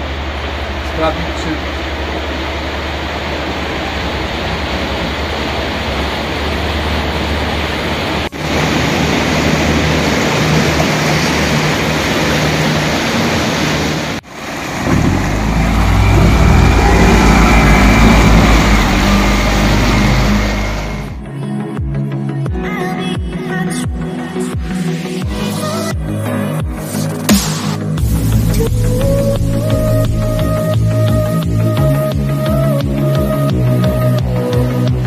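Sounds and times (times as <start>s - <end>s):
outboard motor droning: 0.0s - 21.2s, 28.0s - 35.0s
rushing water: 0.0s - 21.2s, 25.2s - 35.0s.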